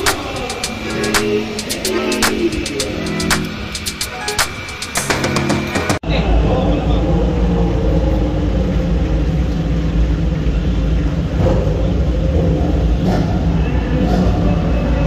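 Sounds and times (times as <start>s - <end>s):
racing car engines rumbling: 0.0s - 15.0s.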